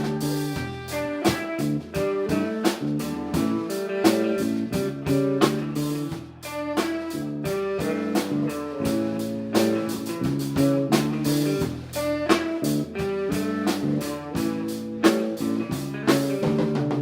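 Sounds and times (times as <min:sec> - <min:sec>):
drum kit beat: 0:00.0 - 0:17.0
electric guitar playing: 0:00.0 - 0:17.0.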